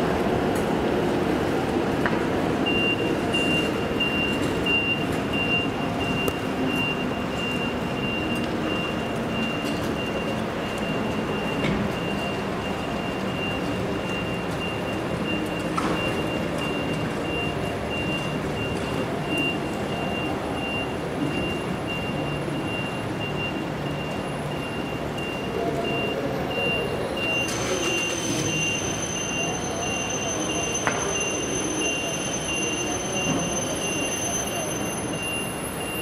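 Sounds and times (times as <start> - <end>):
electric trains rumbling: 0.0 - 36.0
high electronic beeps: 2.7 - 36.0.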